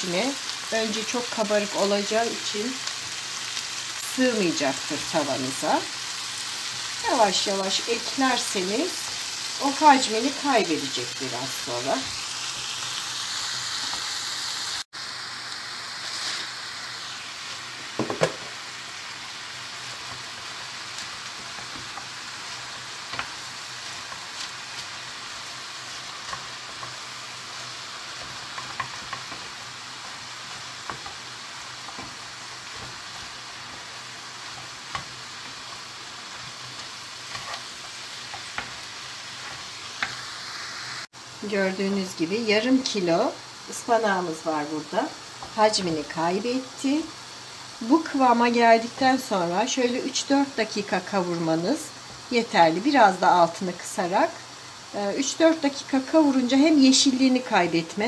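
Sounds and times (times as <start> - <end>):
spinach sizzling in frying pan: 0.0 - 58.0.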